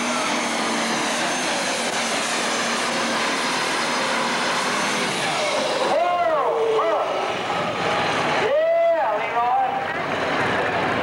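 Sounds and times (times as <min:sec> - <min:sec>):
diesel engine roaring: 0:00.0 - 0:11.0
high turbo whine: 0:00.0 - 0:11.0.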